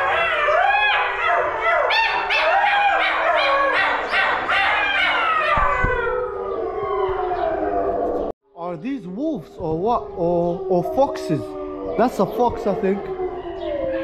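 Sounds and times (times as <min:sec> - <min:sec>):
wolves howling in chorus: 0:00.0 - 0:08.3, 0:09.4 - 0:14.0.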